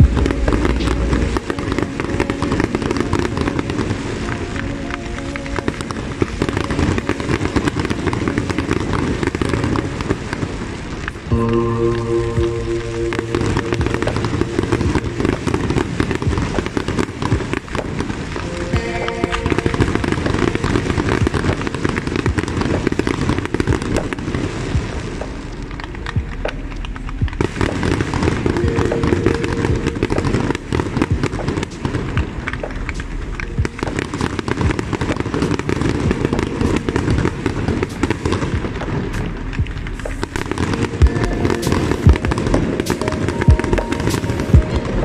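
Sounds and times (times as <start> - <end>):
fireworks bangs and crackling: 0.0 - 45.0.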